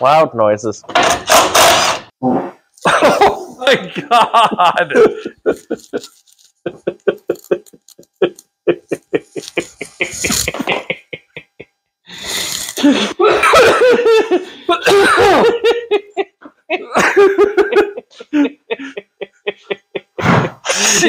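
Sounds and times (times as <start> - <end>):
person laughing: 2.9 - 11.8, 12.6 - 21.0.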